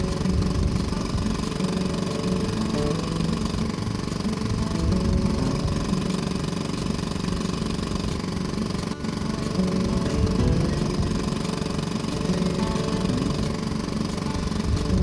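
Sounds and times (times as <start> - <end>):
outboard boat motor running: 0.0 - 15.0.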